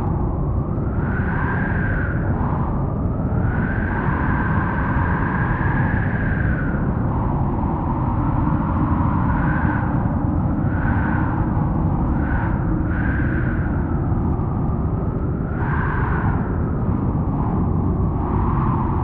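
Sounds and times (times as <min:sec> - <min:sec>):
howling wind: 0:00.0 - 0:19.0.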